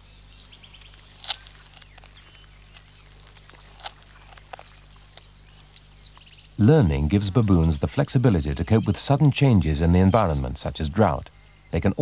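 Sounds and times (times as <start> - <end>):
trilling insects: 0.0 - 12.0.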